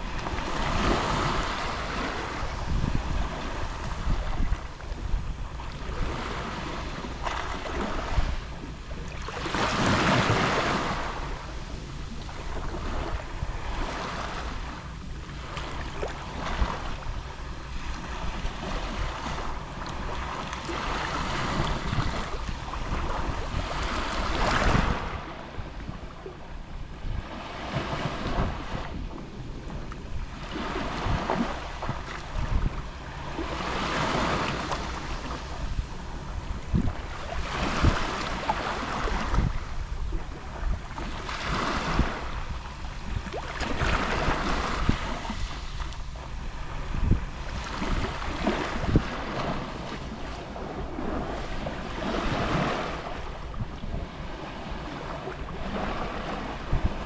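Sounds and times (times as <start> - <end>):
sea waves lapping on shore: 0.0 - 57.0.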